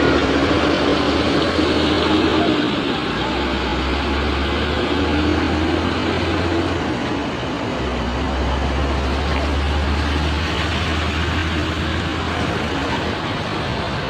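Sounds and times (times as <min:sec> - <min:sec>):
road and wind rushing: 0:00.0 - 0:14.0
vehicle engine hum: 0:00.0 - 0:14.0.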